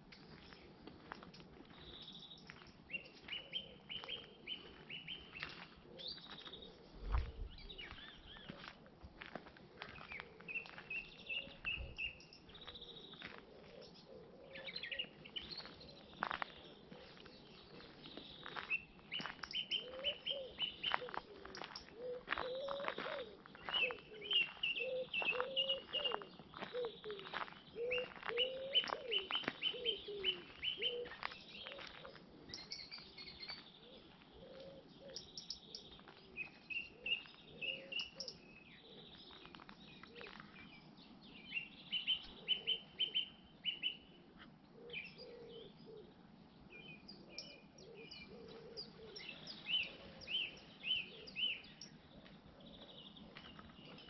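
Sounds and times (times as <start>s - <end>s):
lower rounder bird calls: 0.0s - 8.7s, 9.3s - 54.0s
birds chirping: 0.0s - 54.0s.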